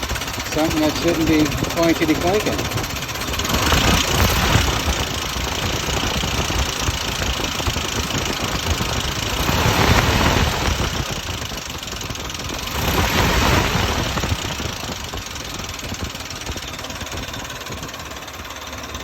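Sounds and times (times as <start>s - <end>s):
engine running with clanking: 0.0s - 19.0s.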